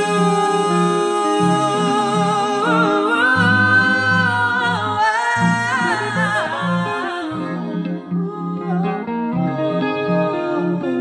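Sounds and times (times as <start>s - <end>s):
electric guitar low notes: 0.0s - 11.0s
woman singing: 0.0s - 11.0s.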